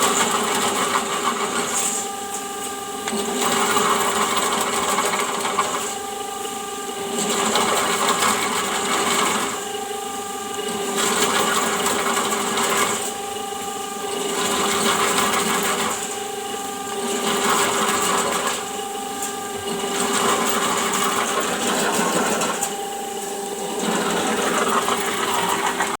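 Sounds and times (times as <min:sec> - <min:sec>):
drain-cleaning machine motor hum: 0:00.0 - 0:26.0.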